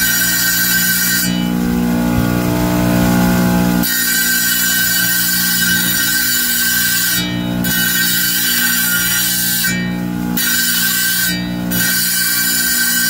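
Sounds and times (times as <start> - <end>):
tile saw grinding stone: 0.0 - 1.5, 3.8 - 13.0
motor humming: 0.0 - 13.0.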